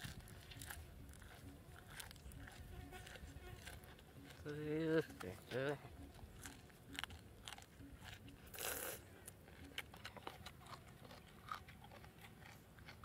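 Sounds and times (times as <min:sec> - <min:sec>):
man crunching and chewing chili: 0:00.0 - 0:13.0.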